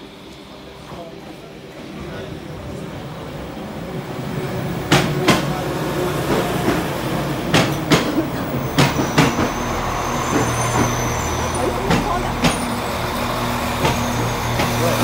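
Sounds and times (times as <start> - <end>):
train engine humming: 0.0 - 15.0.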